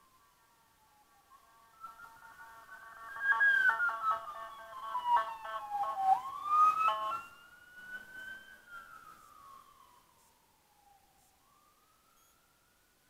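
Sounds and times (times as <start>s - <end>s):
ambulance siren wailing: 0.0s - 12.7s.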